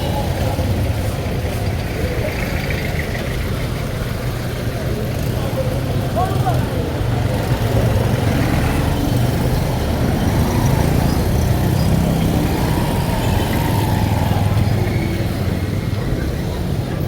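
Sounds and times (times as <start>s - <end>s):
road traffic engines droning: 0.0s - 17.0s.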